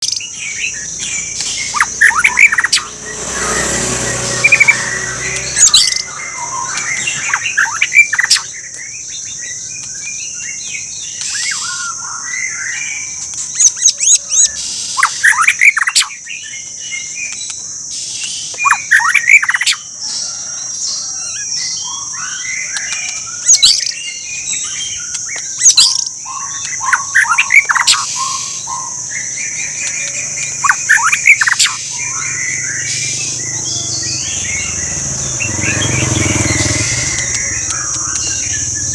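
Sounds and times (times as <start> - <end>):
bird singing whistled phrases: 0.0 - 34.9.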